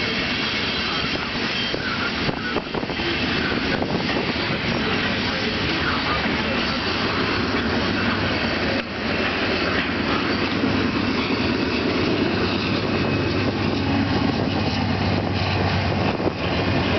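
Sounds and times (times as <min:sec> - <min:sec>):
train rumbling on rails: 0:00.0 - 0:16.9.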